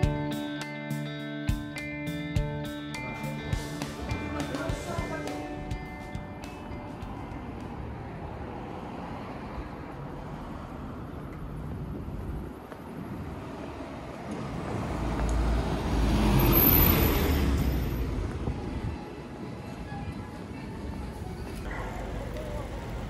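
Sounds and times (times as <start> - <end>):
street traffic: 0.0 - 23.0
truck engine and tyres passing: 2.1 - 23.0.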